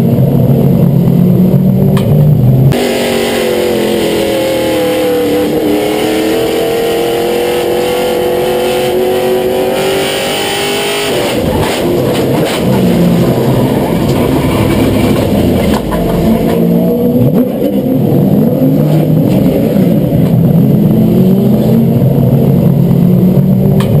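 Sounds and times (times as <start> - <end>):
race car engine at speed: 0.0 - 24.0.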